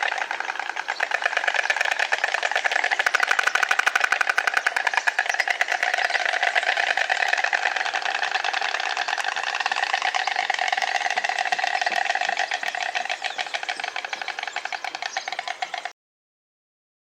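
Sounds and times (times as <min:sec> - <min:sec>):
stork bill-clattering: 0:00.0 - 0:15.9.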